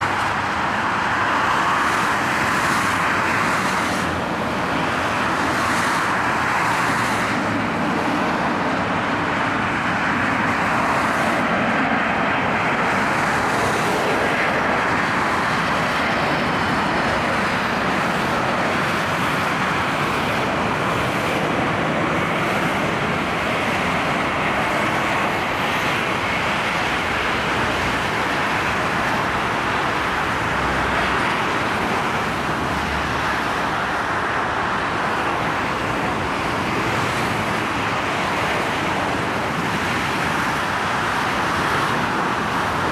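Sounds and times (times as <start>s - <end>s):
jet engines rushing: 0.0s - 42.9s.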